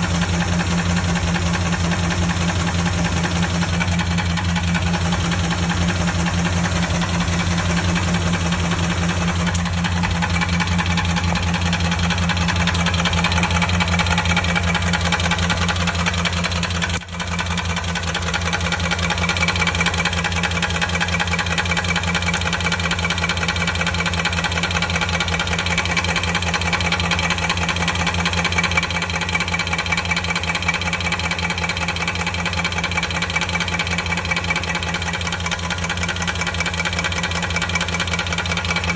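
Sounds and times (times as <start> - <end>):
car engine idling with tapping: 0.0 - 38.9.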